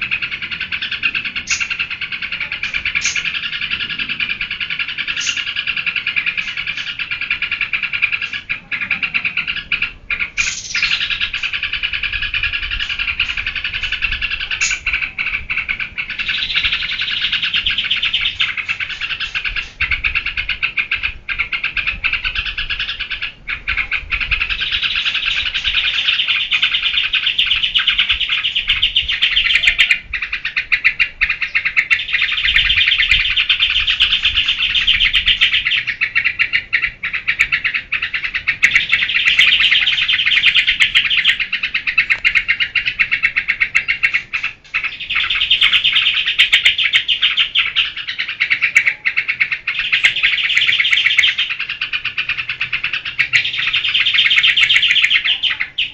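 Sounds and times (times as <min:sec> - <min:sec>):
bulbul chattering song: 0:00.0 - 0:55.9.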